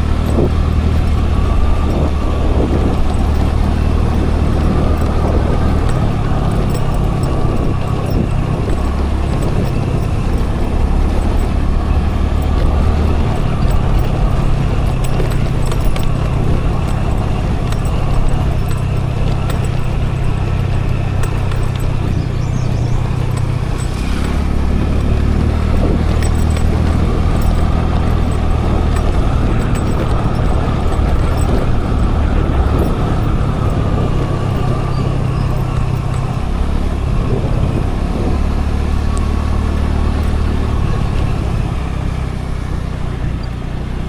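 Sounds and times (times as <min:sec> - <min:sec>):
scooter engine running: 0:00.0 - 0:44.0
wind and road noise: 0:00.0 - 0:44.0.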